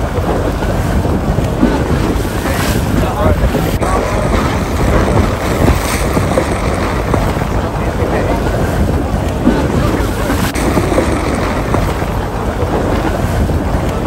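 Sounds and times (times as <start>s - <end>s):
water slapping against hulls: 0.0s - 14.0s
wind buffeting microphone: 0.0s - 14.0s.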